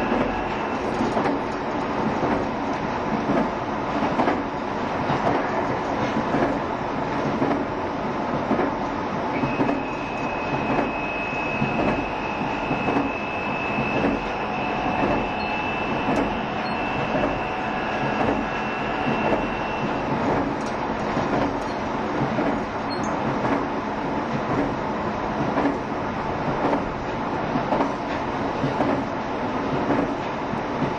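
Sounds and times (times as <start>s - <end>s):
electric train rumbling: 0.0s - 30.9s.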